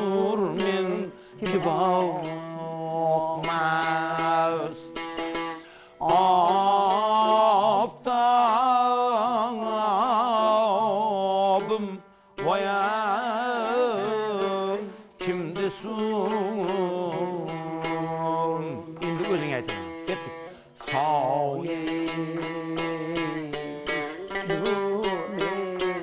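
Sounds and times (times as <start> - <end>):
man singing with melismas: 0.0 - 5.0, 6.0 - 26.0
plucked lute drone: 0.0 - 26.0.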